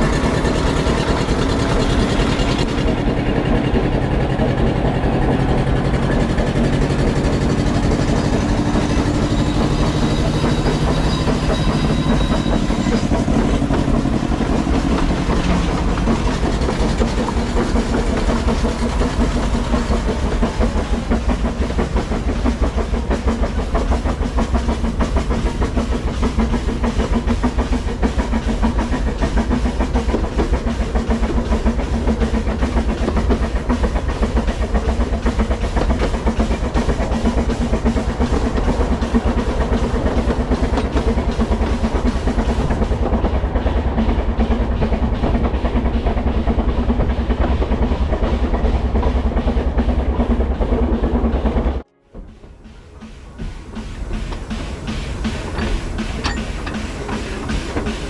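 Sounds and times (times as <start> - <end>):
train low rumble: 0.0 - 58.0
wheels clattering on rails: 0.0 - 58.0.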